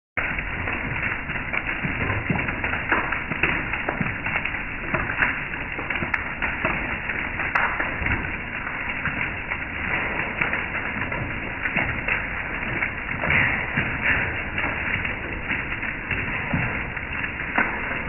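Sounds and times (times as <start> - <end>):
hail pattering on deck and table: 0.2 - 18.0.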